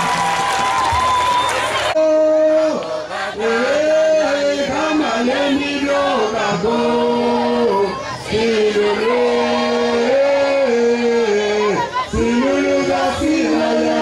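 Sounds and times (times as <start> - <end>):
group singing a hymn in harmony: 2.6 - 14.0.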